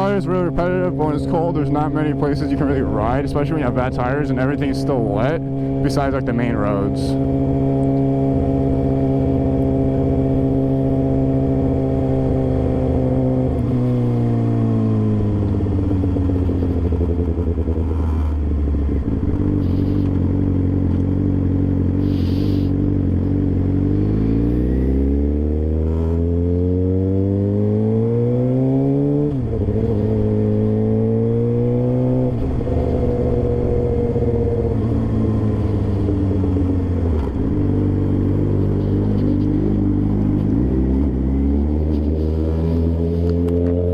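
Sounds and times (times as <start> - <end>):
motorcycle engine: 0.0 - 43.9.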